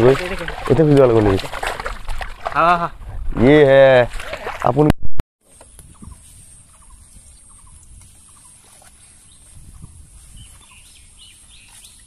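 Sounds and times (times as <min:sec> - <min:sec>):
low rumble of wind: 0:00.0 - 0:04.2, 0:05.6 - 0:12.0.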